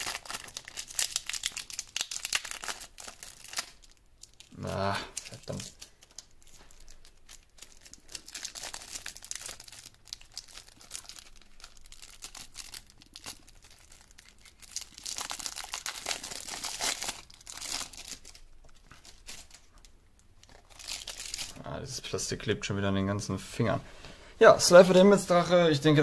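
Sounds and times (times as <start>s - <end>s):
plastic wrapping crinkling and tearing: 0.0s - 21.7s.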